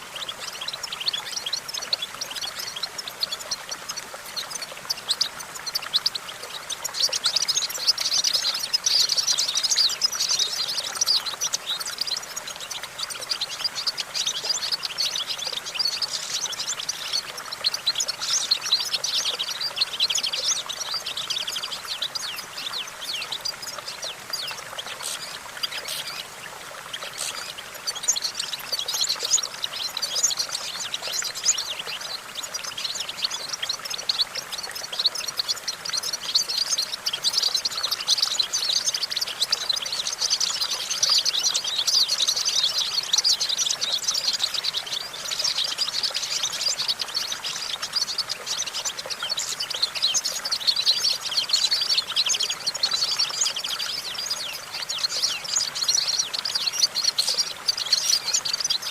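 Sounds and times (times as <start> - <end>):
finch twittering song: 0.0 - 58.9.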